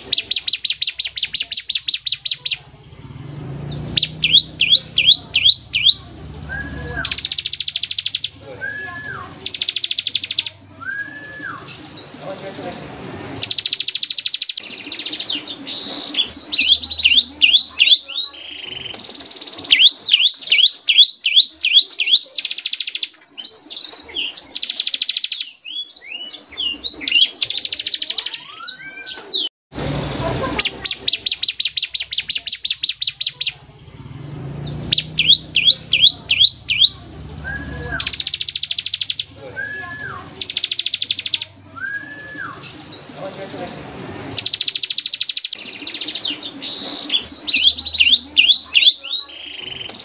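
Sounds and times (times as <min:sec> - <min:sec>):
bird trilling and whistling: 0:00.0 - 0:12.2, 0:13.4 - 0:29.5, 0:30.4 - 0:43.1, 0:44.3 - 0:50.0.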